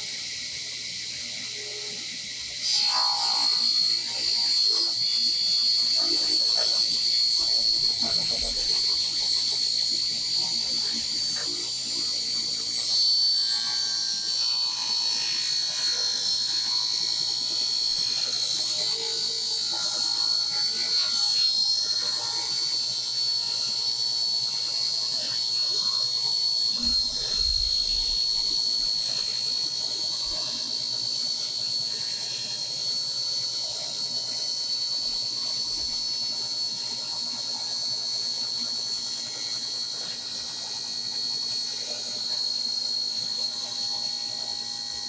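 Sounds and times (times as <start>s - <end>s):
saw cutting board: 0.0s - 45.0s
table saw whining: 0.0s - 45.0s.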